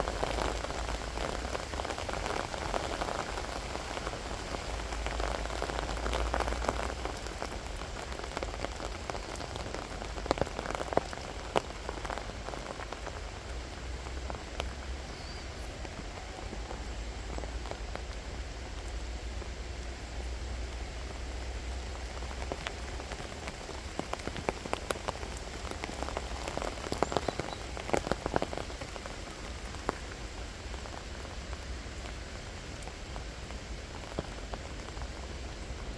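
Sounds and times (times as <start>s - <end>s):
rain pattering: 0.0s - 35.9s.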